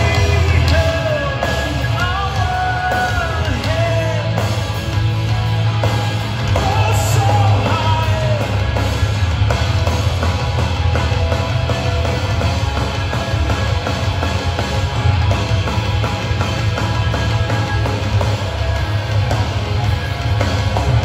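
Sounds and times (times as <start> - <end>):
metalcore band playing live: 0.0 - 21.0.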